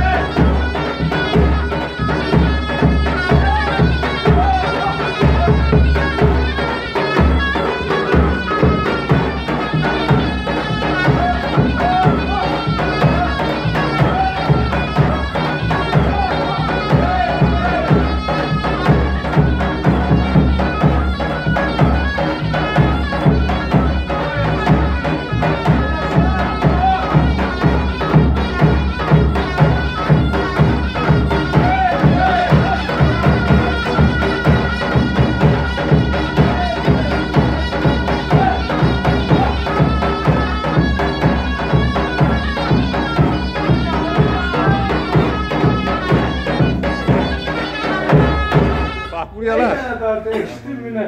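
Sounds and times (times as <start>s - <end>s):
steady drum beat: 0.0s - 50.5s.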